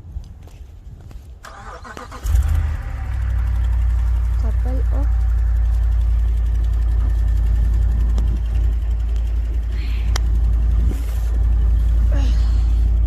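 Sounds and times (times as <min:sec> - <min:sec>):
vehicle engine idling: 0:01.4 - 0:13.0.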